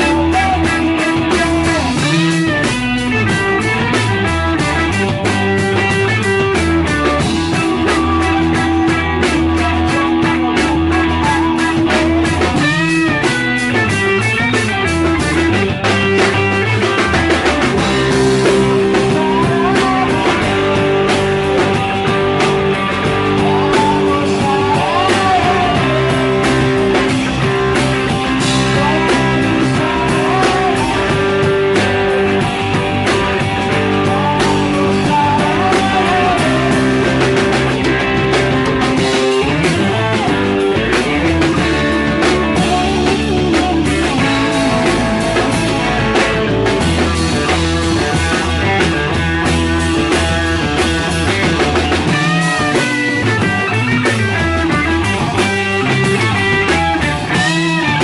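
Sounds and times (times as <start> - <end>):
electric guitar: 0.0 - 58.0
rock band playing: 0.0 - 58.0.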